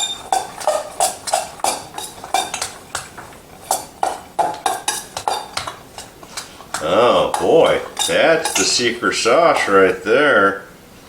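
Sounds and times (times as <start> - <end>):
utensil knocking against a bowl: 0.0 - 10.0.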